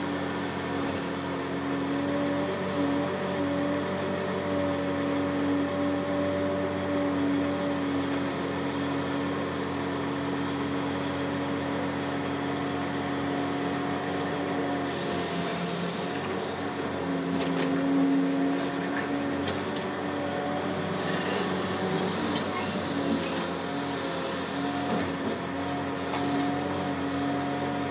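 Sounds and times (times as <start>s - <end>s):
excavator diesel engine running: 0.0s - 27.9s.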